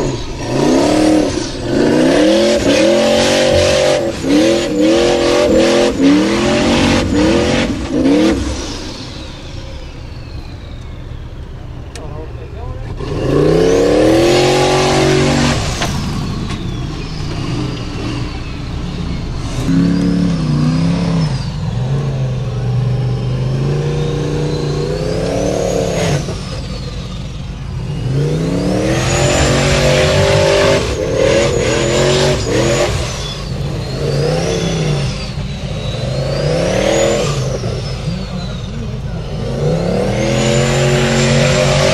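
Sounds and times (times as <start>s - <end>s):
buggy engine revving: 0.0s - 41.9s
high whine: 0.0s - 41.9s.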